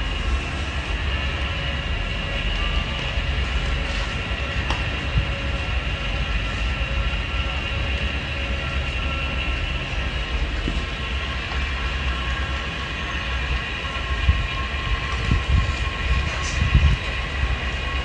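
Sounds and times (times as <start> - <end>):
welding machine motor whine: 0.0 - 18.0.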